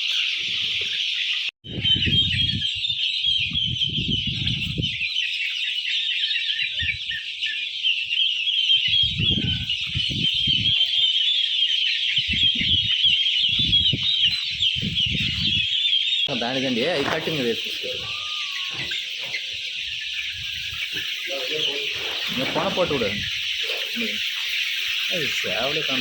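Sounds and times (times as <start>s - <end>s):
chickens chirping and peeping: 0.0s - 26.0s.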